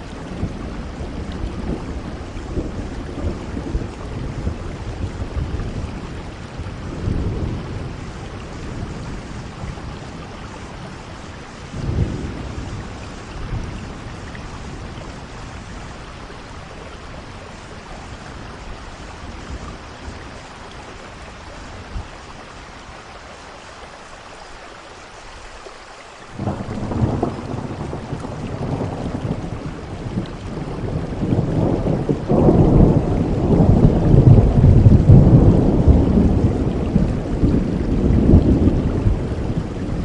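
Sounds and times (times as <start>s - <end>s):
deep rolling thunder: 0.0s - 22.1s, 26.4s - 40.0s
steady rainfall: 0.0s - 40.0s.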